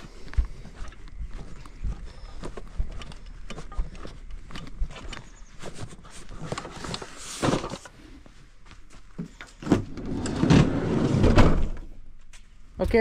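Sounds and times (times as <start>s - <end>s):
scraping and shuffling: 0.0s - 13.0s.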